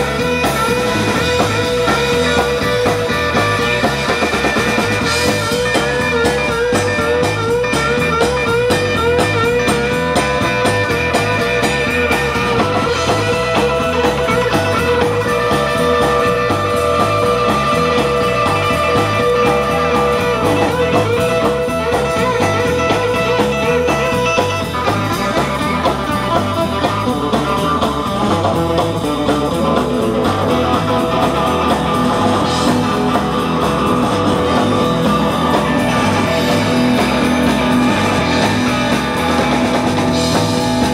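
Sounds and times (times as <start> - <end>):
electric guitar lead with vibrato: 0.0 - 40.9
live blues band: 0.0 - 40.9.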